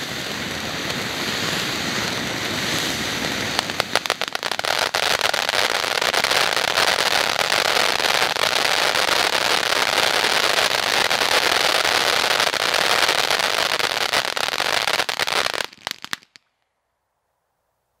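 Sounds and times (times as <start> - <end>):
firework crackling pops: 0.0 - 16.6.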